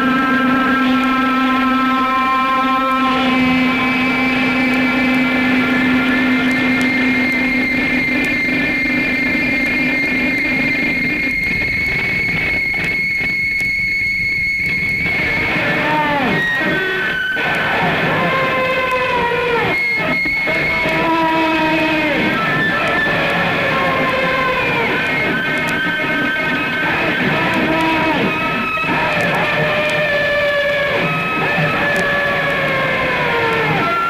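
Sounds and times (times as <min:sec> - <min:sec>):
distorted noise music: 0:00.0 - 0:34.0
held whining tones: 0:00.0 - 0:34.0.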